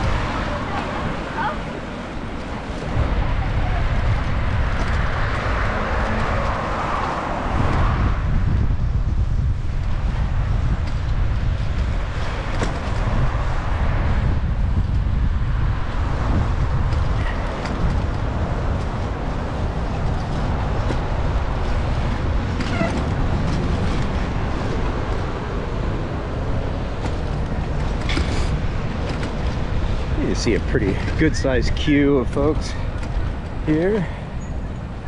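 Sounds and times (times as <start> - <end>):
city street traffic: 0.0 - 35.0
wind rumble on microphone: 0.0 - 35.0.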